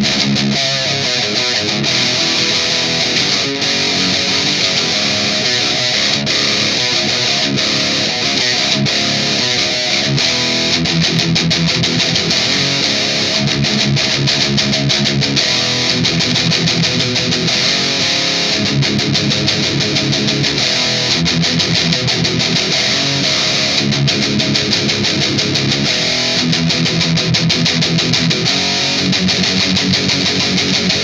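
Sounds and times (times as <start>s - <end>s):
overdriven electric guitar riff: 0.0s - 31.0s.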